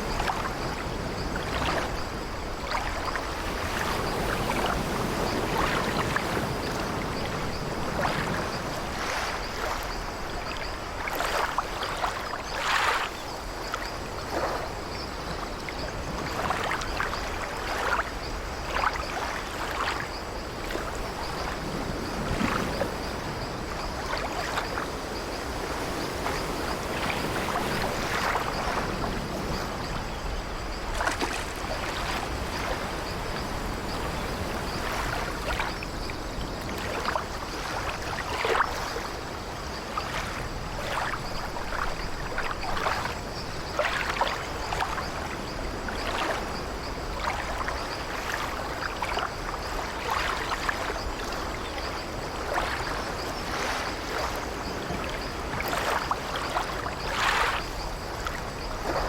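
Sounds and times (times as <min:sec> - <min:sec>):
waves washing against ship: 0:00.0 - 0:59.0.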